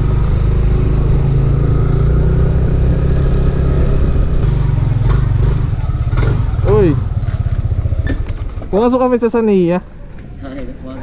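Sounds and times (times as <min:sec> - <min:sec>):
scooter engine running: 0:00.0 - 0:09.1
road and wind noise: 0:00.0 - 0:11.0.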